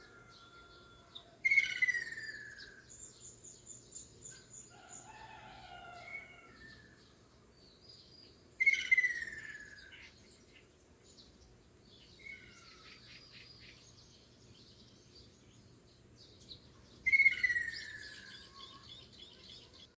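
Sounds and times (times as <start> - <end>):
faint background noise: 0.0 - 20.0
quiet bird chirping: 0.0 - 20.0.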